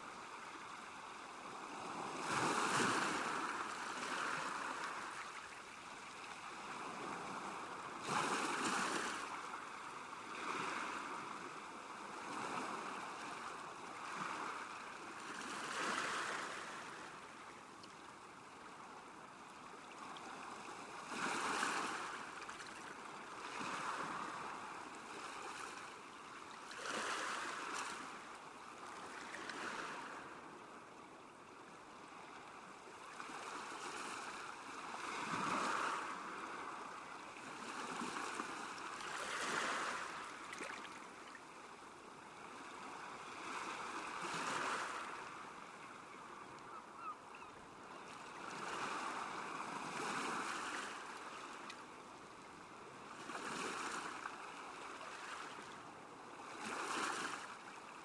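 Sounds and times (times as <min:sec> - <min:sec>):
small waves lapping shore: 0:00.0 - 0:58.0.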